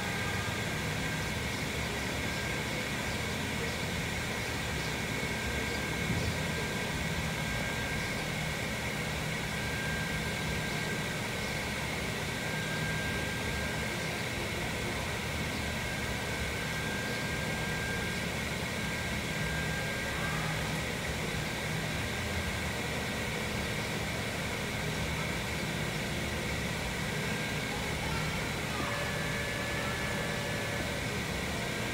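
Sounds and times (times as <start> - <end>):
faint high whine: 0.0 - 31.9
mechanical hum: 0.0 - 31.9.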